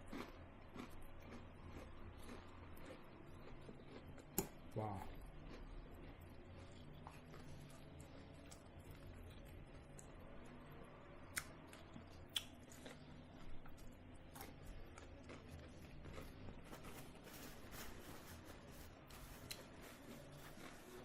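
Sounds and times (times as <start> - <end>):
chewing with crunches: 0.0 - 21.0
low steady hum: 0.0 - 21.0.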